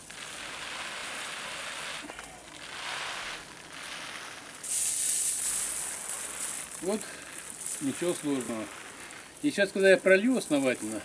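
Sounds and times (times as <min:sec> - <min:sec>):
hose spray hissing on soil: 0:00.0 - 0:11.0.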